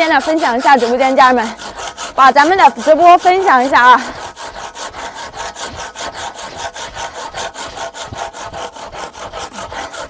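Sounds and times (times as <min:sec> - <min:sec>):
rhythmic scraping: 0:00.0 - 0:10.0.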